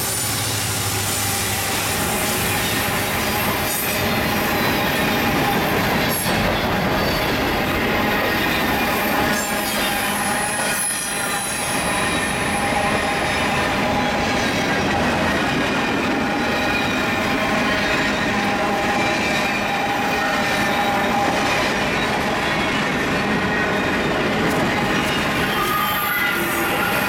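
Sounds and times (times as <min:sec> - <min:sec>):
train wheels rumbling on rail: 0:00.0 - 0:27.0
train wheels squealing: 0:00.0 - 0:27.0.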